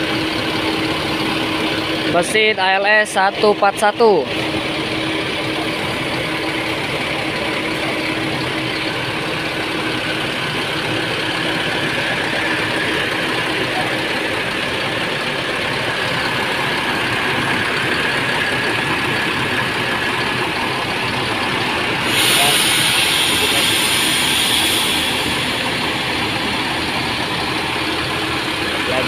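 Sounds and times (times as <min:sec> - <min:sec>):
diesel bus engine idling: 0:00.0 - 0:29.0.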